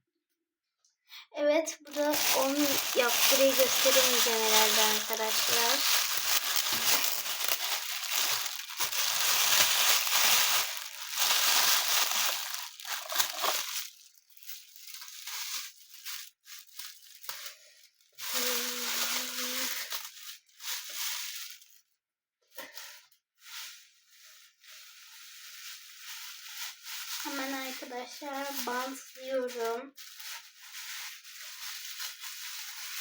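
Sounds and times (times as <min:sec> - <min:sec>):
plastic bag crinkling: 0:01.9 - 0:21.9, 0:22.6 - 0:33.0.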